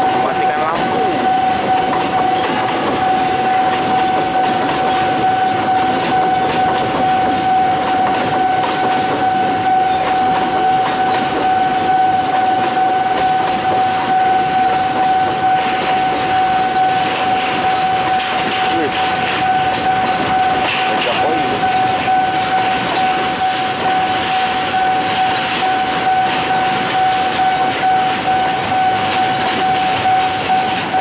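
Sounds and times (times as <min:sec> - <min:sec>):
freight train rumbling and clattering: 0:00.0 - 0:31.0
level crossing warning tone: 0:00.0 - 0:31.0.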